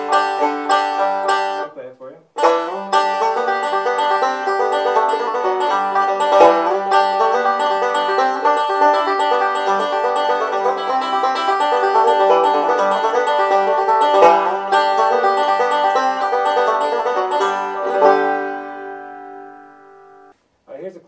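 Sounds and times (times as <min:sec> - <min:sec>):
banjo chord ringing: 0:00.0 - 0:01.7, 0:02.4 - 0:20.3
banjo picking fast notes: 0:00.0 - 0:01.7, 0:02.4 - 0:20.3.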